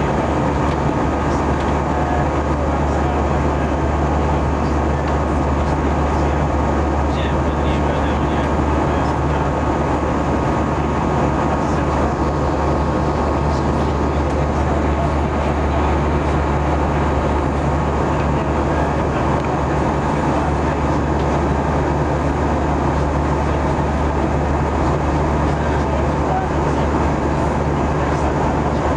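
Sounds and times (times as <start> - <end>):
engine and airflow rush: 0.0 - 28.9.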